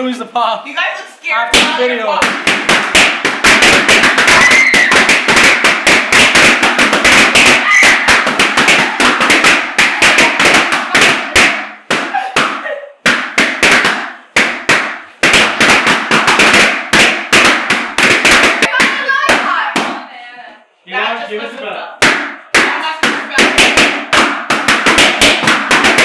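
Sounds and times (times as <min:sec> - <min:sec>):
balloons bursting: 0:01.5 - 0:20.1, 0:22.0 - 0:26.0.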